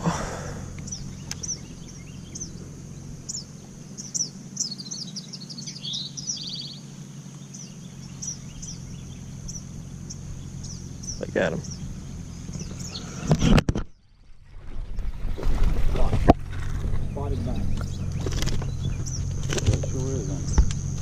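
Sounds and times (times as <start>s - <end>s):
songbirds chirping: 0.0s - 21.0s
steady low hum: 0.0s - 21.0s
bird trill: 0.5s - 13.3s, 16.5s - 21.0s.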